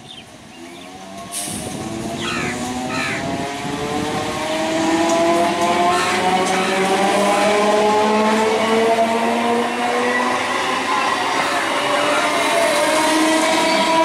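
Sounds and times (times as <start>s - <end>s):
wheels rushing on rail: 0.1s - 14.0s
electric traction motors whining: 1.9s - 14.0s.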